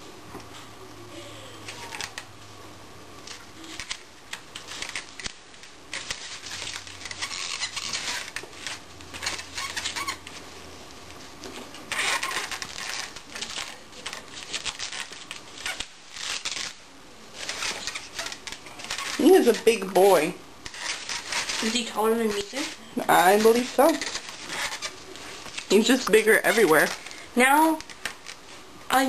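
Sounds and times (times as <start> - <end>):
fabric rustling: 3.2 - 28.8.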